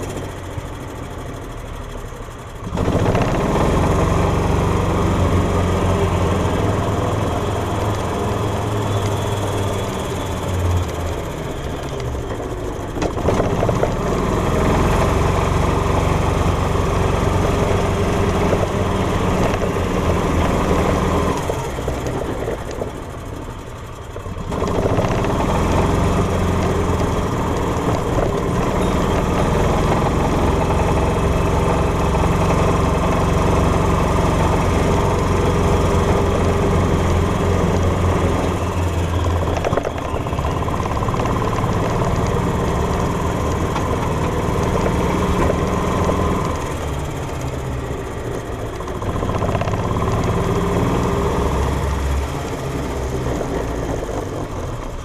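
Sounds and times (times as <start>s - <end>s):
golf cart engine running: 0.0s - 55.0s.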